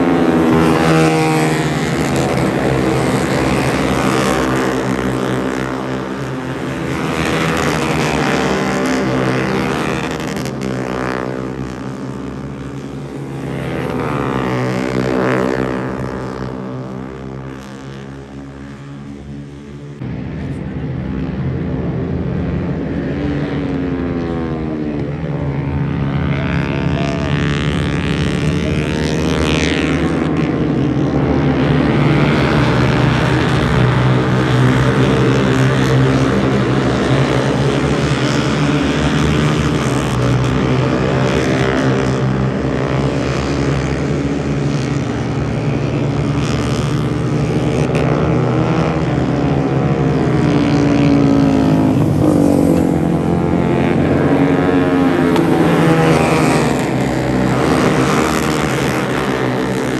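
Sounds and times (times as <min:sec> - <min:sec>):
racing motorcycle engines revving: 0:00.0 - 0:59.9
steady low drone: 0:00.0 - 0:59.9.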